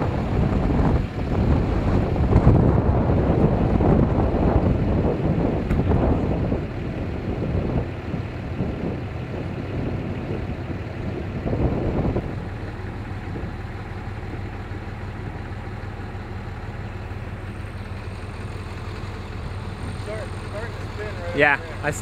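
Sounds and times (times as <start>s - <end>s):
vehicle engine idling: 0.0s - 22.0s
wind buffeting microphone: 0.0s - 22.0s.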